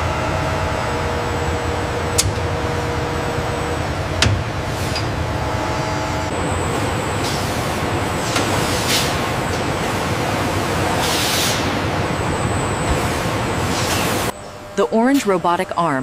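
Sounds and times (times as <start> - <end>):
factory machinery with high whine: 0.0 - 16.0.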